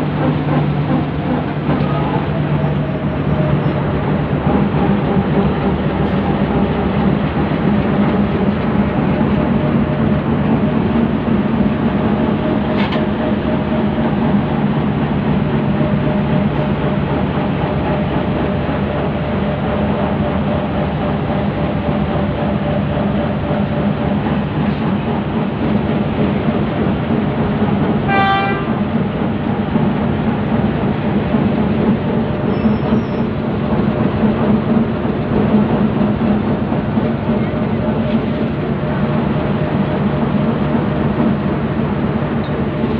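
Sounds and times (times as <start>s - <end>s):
diesel locomotive engine idling: 0.0s - 42.9s.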